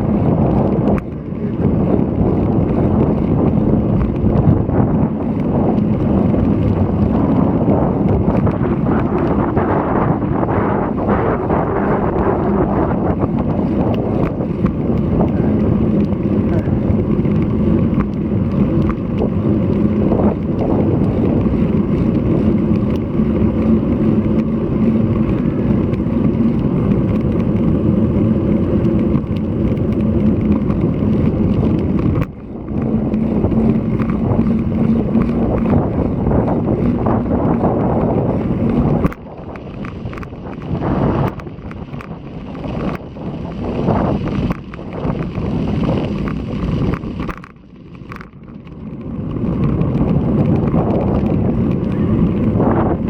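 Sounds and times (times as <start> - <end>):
steady low hum: 0.0 - 47.4
wind blowing across microphone: 0.0 - 53.0.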